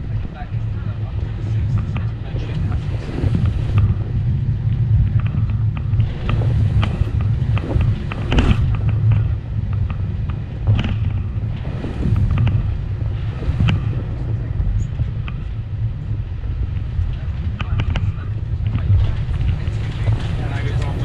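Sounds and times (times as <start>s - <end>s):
aircraft cabin rumble: 0.0s - 21.0s.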